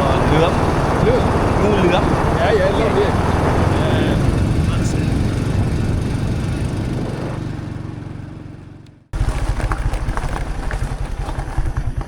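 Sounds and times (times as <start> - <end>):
rushing wind: 0.0 - 12.0
small motorbike engine running: 0.0 - 12.0.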